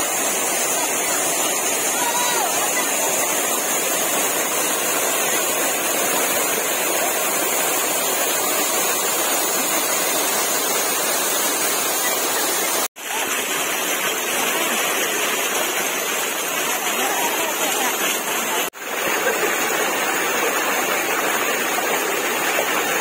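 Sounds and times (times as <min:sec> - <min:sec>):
waterfall pouring into pool: 0:00.0 - 0:23.0.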